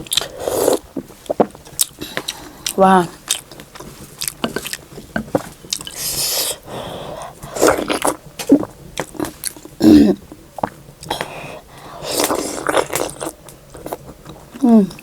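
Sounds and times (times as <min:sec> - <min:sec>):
wet chewing: 0:00.0 - 0:09.8, 0:10.6 - 0:14.6.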